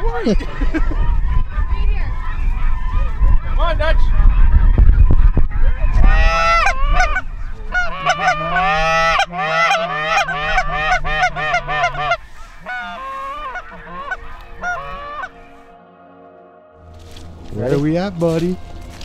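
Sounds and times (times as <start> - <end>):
geese honking: 0.4 - 19.0.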